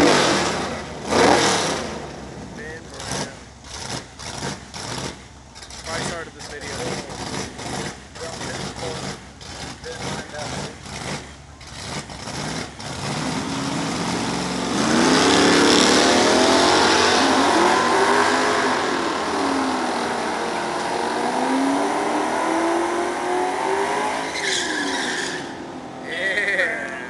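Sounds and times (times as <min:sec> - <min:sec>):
engine revving high: 0:00.0 - 0:02.1, 0:02.8 - 0:26.0.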